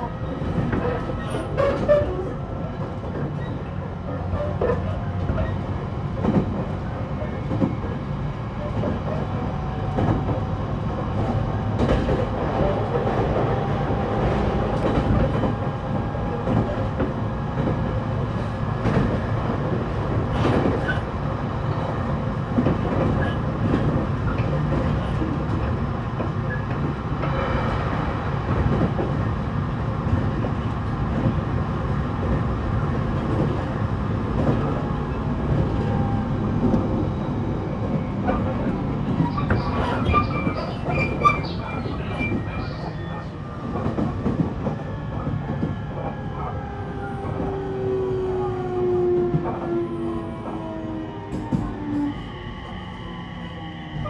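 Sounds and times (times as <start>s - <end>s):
train wheels rumbling on rail: 0.0s - 54.0s
rail joint clicks: 0.4s - 52.8s.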